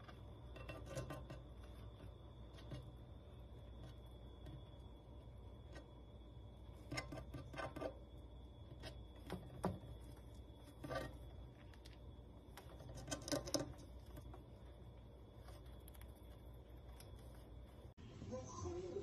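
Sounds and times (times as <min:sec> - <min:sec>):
hamster gnawing and pawing: 0:00.0 - 0:18.0.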